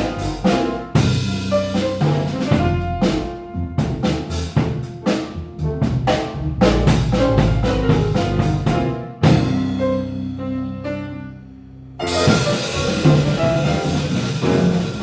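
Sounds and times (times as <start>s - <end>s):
drum strikes and cymbals: 0.0s - 10.4s, 12.0s - 15.0s
low bass line: 0.0s - 15.0s
piano chords: 0.0s - 15.0s.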